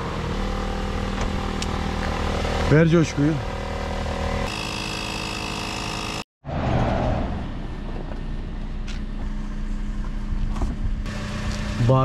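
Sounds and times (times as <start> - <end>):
car engine running: 0.0 - 6.2, 7.4 - 12.0.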